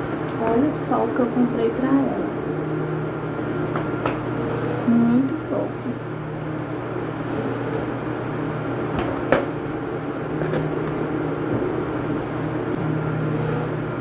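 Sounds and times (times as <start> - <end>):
electric motor hum: 0.0 - 14.0.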